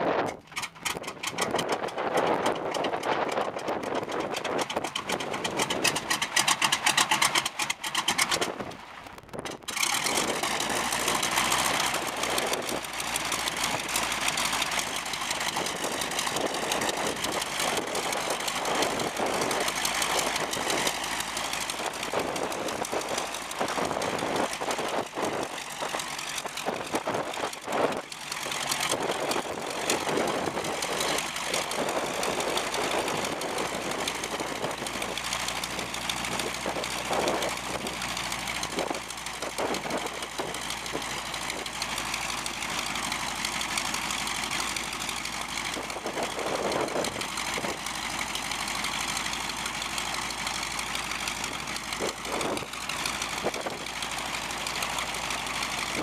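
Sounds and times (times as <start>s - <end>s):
radial engine starting and idling: 0.0s - 56.0s.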